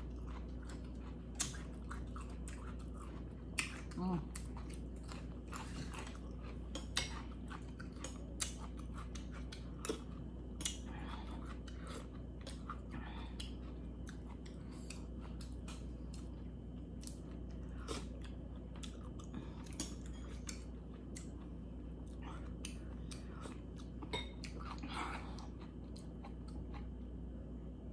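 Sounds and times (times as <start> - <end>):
person chewing soup: 0.0 - 27.5
steady low hum: 0.0 - 27.9.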